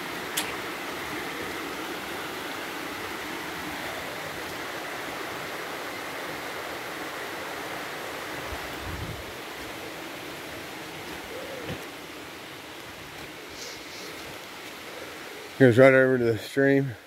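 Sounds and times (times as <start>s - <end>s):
mountain stream rushing water: 0.0s - 17.0s.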